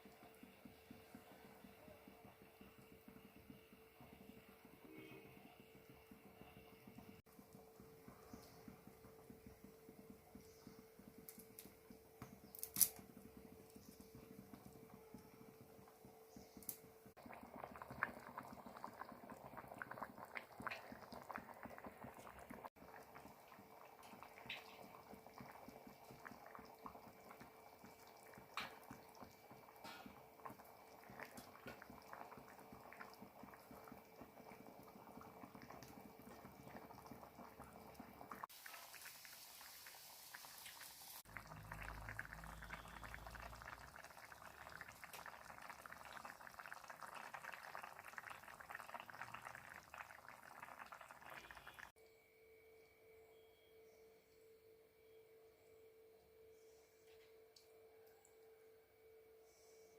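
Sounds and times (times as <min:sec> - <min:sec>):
curry bubbling in a pan: 0:00.0 - 0:52.0.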